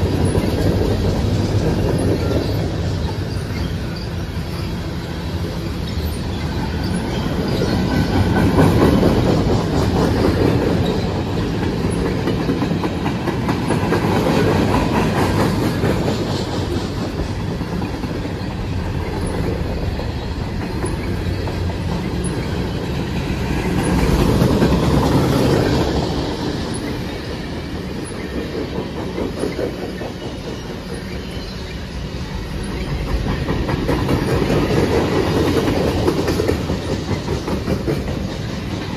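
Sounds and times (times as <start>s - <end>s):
freight train rolling past: 0.0s - 38.9s
wheels clacking over rail joints: 0.0s - 38.9s.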